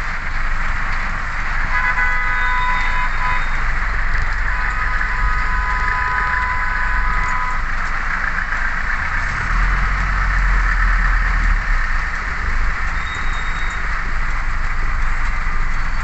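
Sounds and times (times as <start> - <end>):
engine idling: 0.0 - 16.0
heavy rain drumming on car roof: 0.0 - 16.0.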